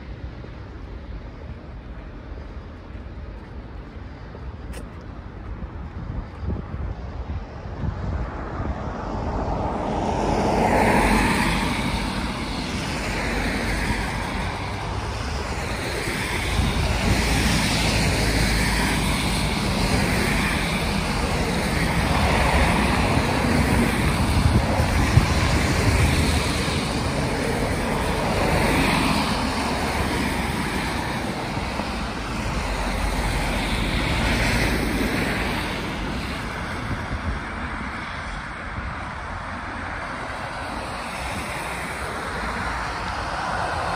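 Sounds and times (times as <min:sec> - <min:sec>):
cars passing on wet road: 0:00.0 - 0:43.9
tyres hissing on wet asphalt: 0:08.3 - 0:43.9.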